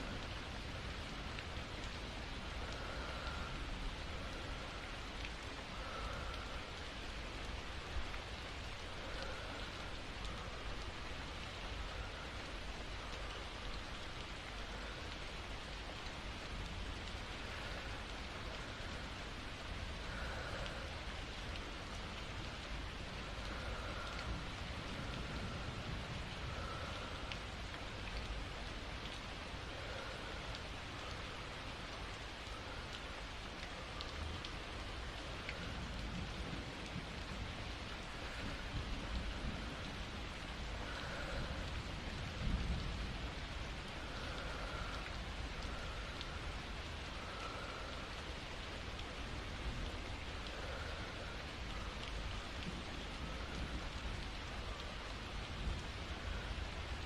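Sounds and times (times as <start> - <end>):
rain falling: 0.0 - 57.0
soft breaths: 0.0 - 57.0.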